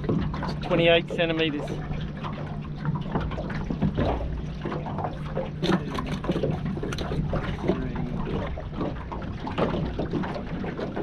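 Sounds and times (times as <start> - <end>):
steady low hum: 0.0 - 11.0
water splashing and trickling: 0.0 - 11.0.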